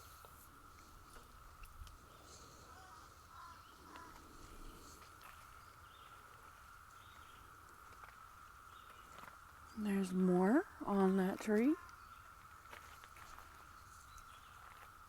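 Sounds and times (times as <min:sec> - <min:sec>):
cicadas droning: 0:00.0 - 0:15.0
faint bird calls: 0:01.1 - 0:15.0.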